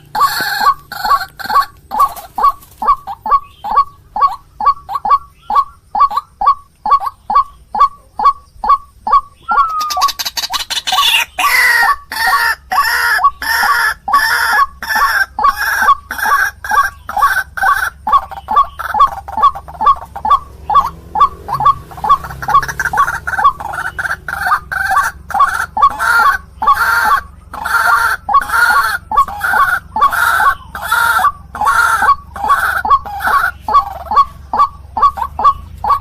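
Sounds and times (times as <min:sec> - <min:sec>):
waterhen calling: 0:00.0 - 0:36.0.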